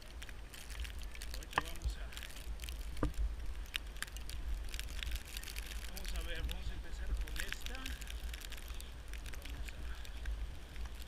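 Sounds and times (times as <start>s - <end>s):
crackles and clicks: 0.0s - 11.0s.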